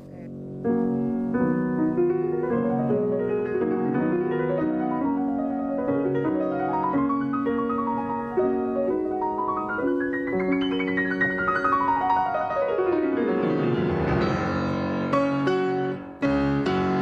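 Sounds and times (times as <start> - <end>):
classical piano arpeggios: 0.0 - 17.0.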